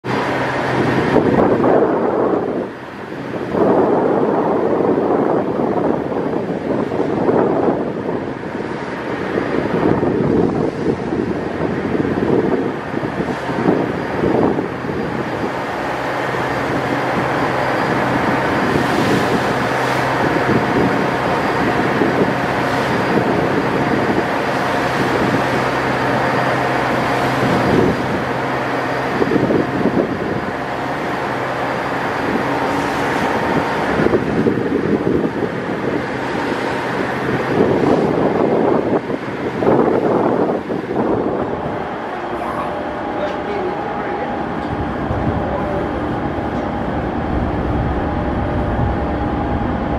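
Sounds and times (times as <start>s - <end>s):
ship engines droning: 0.0s - 49.9s
wind buffeting microphone: 0.0s - 49.9s.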